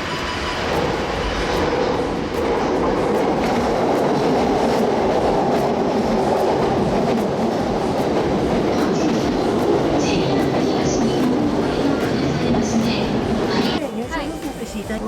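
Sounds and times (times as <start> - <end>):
rail clicks: 0.0 - 15.0
train rumbling on rails: 0.0 - 15.0.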